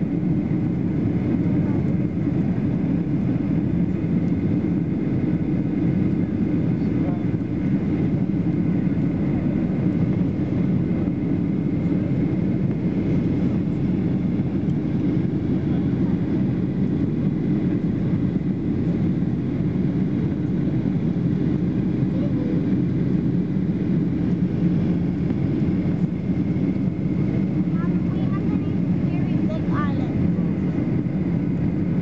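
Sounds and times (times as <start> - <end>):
jet airliner cabin noise: 0.0 - 32.0.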